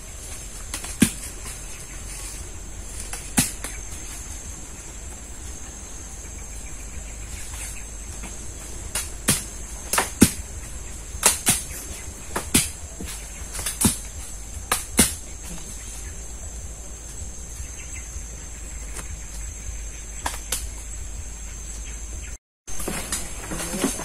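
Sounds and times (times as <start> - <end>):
insects droning: 0.0 - 24.0
fruits thudding on ground: 0.1 - 18.0, 20.2 - 20.9, 22.7 - 24.0.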